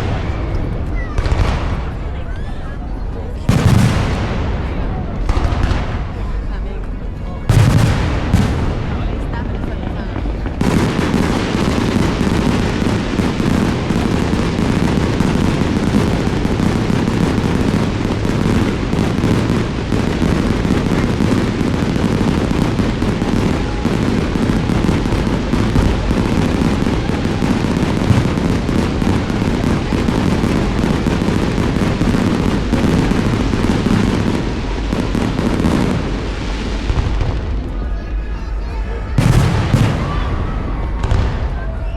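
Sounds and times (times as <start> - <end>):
fireworks booming and crackling: 0.0 - 41.9.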